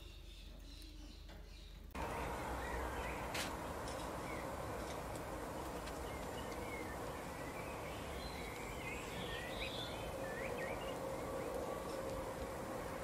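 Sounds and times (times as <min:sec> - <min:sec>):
songbirds twittering: 0:00.0 - 0:13.0
background hiss: 0:01.9 - 0:13.0
faint hum: 0:02.0 - 0:13.0.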